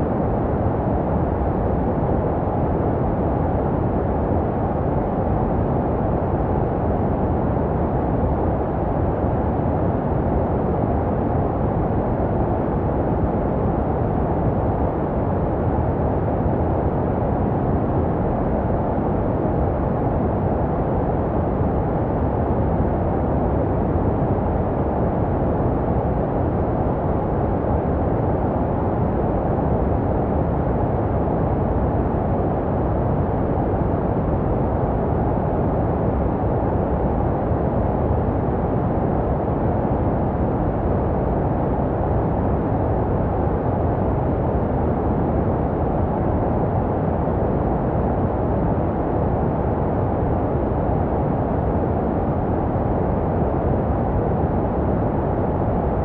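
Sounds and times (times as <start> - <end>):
deep muffled white noise: 0.0 - 56.0.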